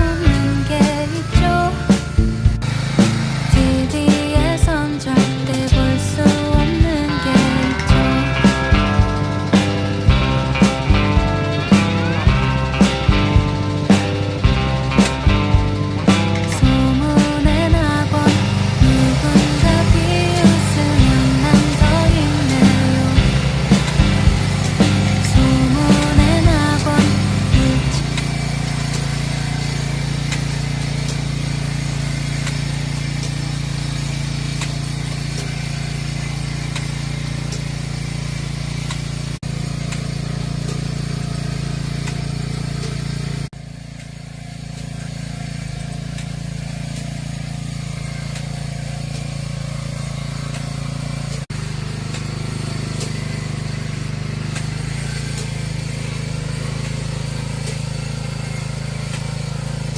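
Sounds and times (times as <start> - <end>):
planting mechanism clatter: 0.0 - 59.9
small engine running: 0.0 - 59.9.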